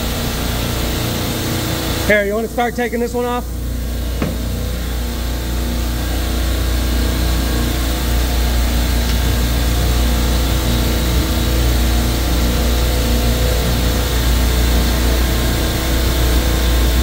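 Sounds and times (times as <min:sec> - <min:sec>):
refrigeration machinery humming: 0:00.0 - 0:17.0.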